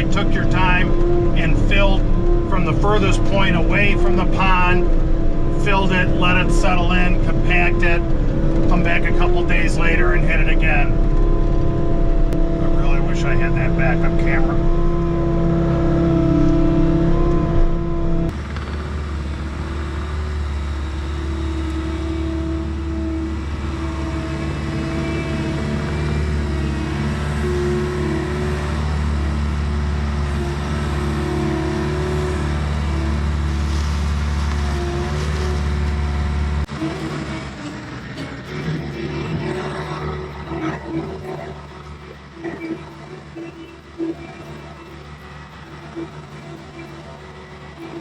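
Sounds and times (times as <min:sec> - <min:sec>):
diesel engine droning under load: 0:00.0 - 0:48.0.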